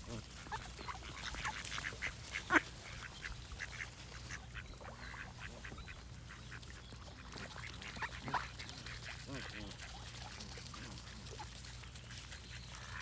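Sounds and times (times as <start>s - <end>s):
ducks quacking: 0.0s - 11.6s, 12.5s - 13.0s.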